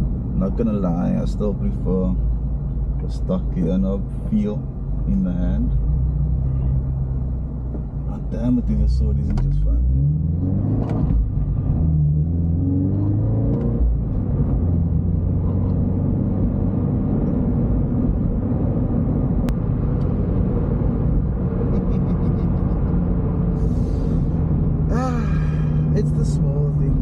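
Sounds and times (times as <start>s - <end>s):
car engine rumble from inside cabin: 0.0s - 27.0s.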